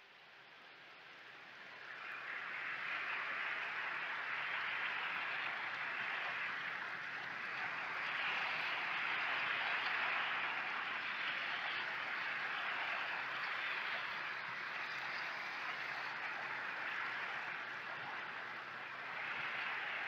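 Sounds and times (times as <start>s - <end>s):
sea waves lapping on shore: 2.0s - 20.0s.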